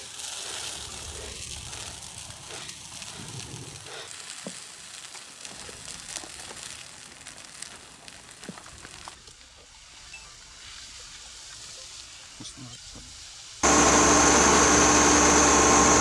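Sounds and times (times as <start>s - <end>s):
wildfire crackling and popping: 0.0s - 16.0s.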